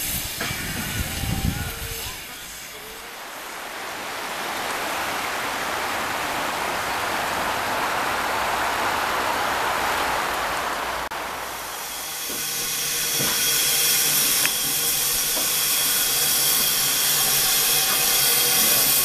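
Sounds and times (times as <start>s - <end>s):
river rushing over stones: 0.0s - 16.2s.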